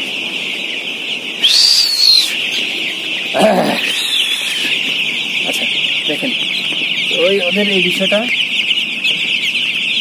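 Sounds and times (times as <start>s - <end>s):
chicks peeping: 0.0s - 10.0s
loud drawn-out chick peeps: 0.0s - 10.0s.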